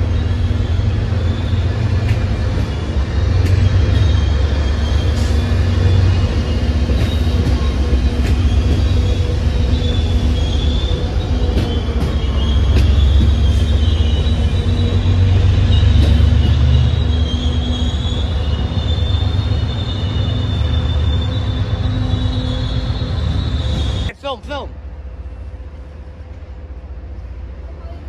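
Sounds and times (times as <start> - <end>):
wheel squeal: 0.0 - 24.1
train rumbling: 0.0 - 28.0.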